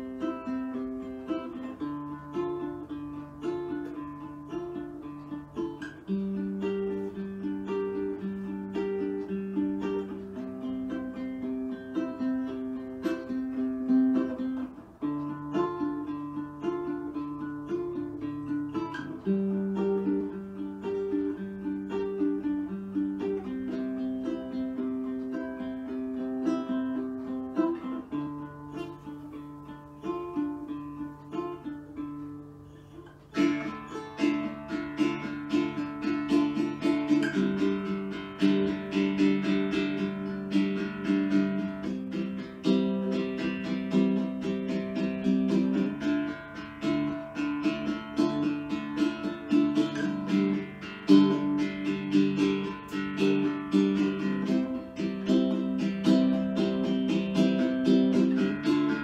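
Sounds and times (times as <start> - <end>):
plucked string music: 0.0 - 59.0.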